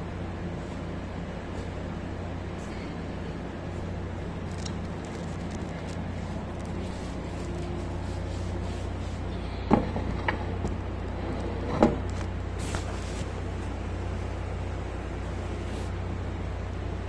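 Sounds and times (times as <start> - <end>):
diesel generator humming: 0.0 - 17.0.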